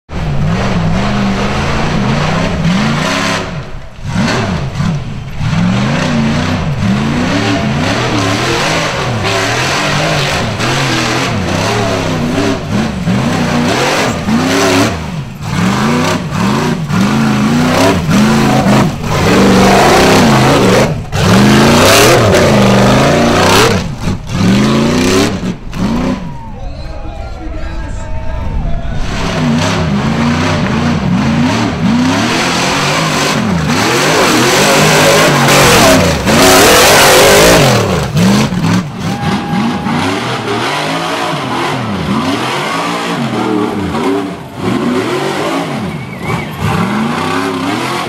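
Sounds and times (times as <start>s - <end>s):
buggy engine revving: 0.1s - 26.6s, 28.9s - 48.0s.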